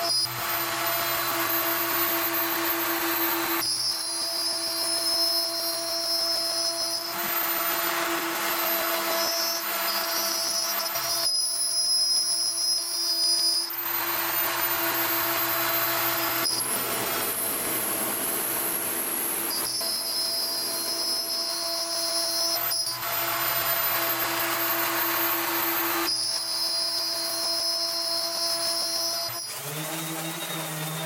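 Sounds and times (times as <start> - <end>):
cnc spindle whine: 0.0 - 31.0
router bit cutting wood: 0.0 - 31.0.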